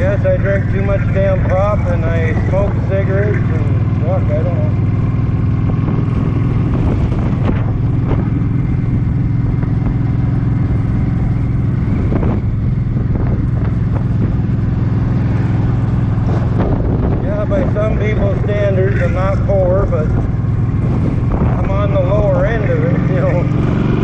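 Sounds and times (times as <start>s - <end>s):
motorcycle engine cruising: 0.0s - 24.0s
wind noise on microphone: 4.7s - 24.0s.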